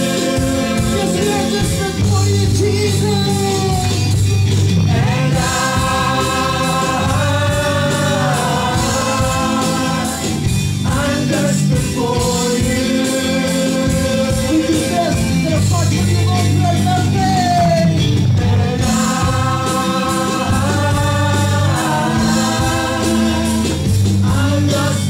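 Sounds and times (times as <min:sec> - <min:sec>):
man singing worship song: 0:00.0 - 0:04.2, 0:04.8 - 0:25.0
instrumental accompaniment: 0:00.0 - 0:25.0.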